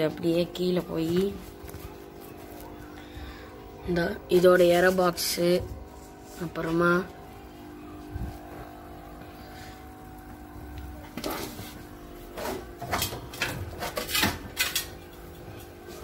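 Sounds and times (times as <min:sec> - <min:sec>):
electric air pump humming: 0:00.0 - 0:16.0.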